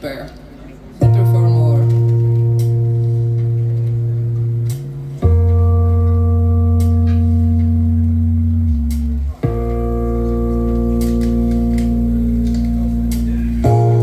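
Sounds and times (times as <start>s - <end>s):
deep held bass note: 1.0s - 14.0s
sustained chord tones: 1.0s - 14.0s.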